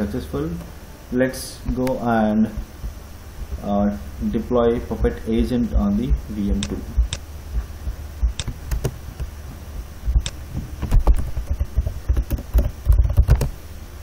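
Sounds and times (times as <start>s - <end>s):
computer keyboard typing: 1.6s - 7.6s, 8.2s - 13.5s.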